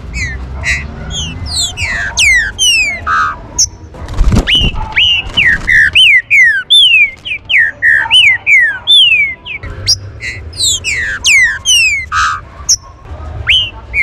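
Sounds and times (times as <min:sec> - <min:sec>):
bird whistled calls: 0:00.1 - 0:03.8, 0:04.4 - 0:14.0.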